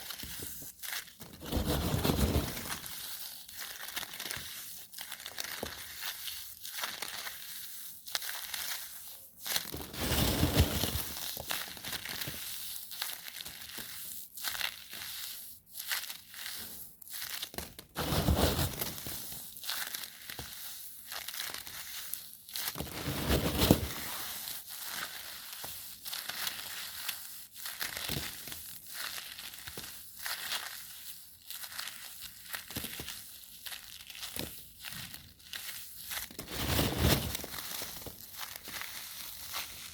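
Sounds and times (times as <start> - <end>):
close-up crinkling and crackling: 0.0 - 7.4, 8.1 - 14.0, 16.2 - 20.5, 21.1 - 27.2, 27.8 - 39.9.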